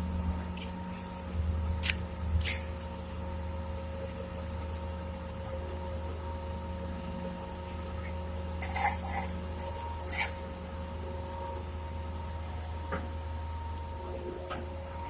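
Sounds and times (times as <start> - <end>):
diesel engine humming: 0.0 - 12.9.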